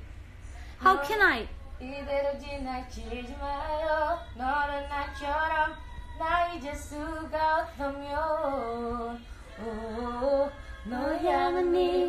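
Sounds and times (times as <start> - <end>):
woman singing slow melody: 0.8 - 12.0.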